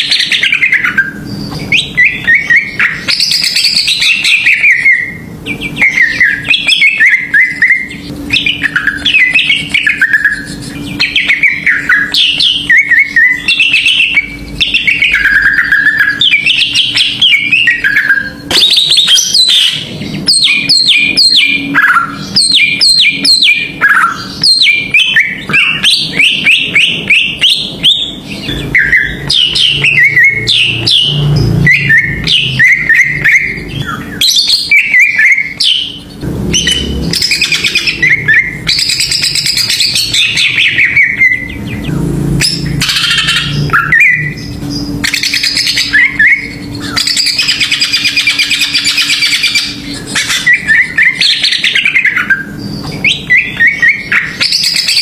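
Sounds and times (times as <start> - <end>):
bird singing chirps and trills: 0.0 - 55.0.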